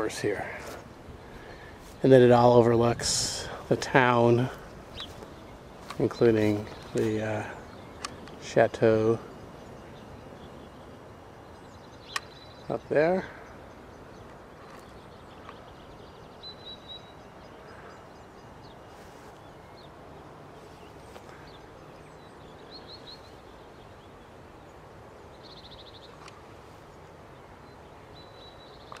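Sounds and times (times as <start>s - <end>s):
outdoor background noise: 0.0s - 29.0s
small birds chirping: 0.0s - 29.0s.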